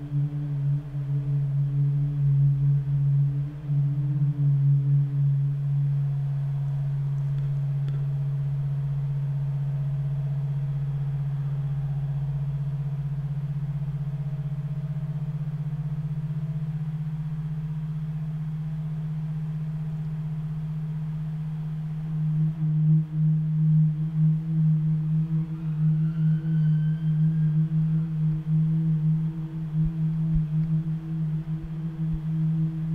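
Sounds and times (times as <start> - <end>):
low electronic drone tone: 0.0 - 32.9.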